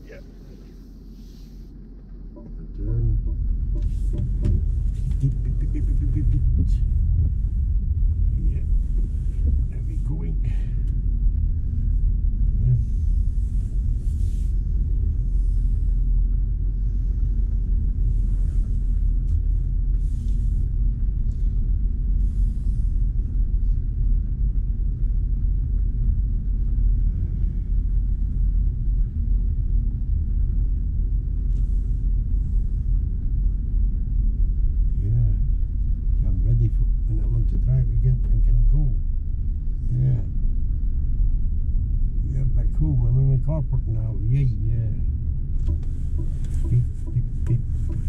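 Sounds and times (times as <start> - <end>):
tyre and road noise: 1.7 - 42.8.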